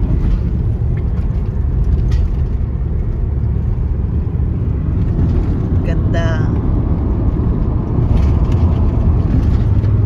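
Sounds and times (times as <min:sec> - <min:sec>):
car road and wind noise: 0:00.0 - 0:10.0.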